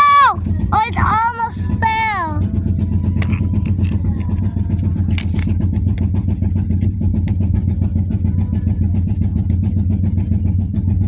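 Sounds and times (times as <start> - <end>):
motor droning hum: 0.0 - 11.0.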